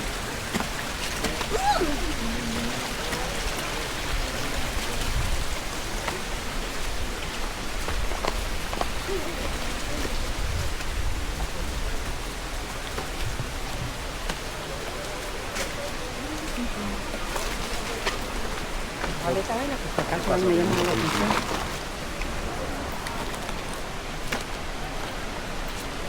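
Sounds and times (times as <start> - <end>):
fast-flowing river water: 0.0 - 26.0.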